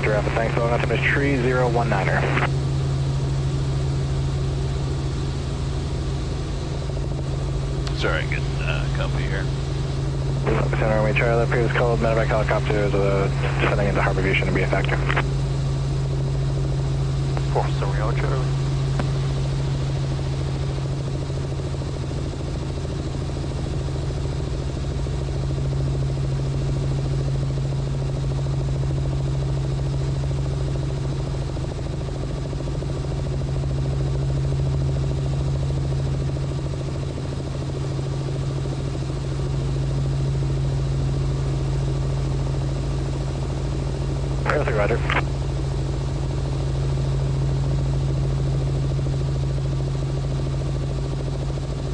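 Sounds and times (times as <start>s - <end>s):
helicopter engine and rotors drone: 0.0s - 51.9s.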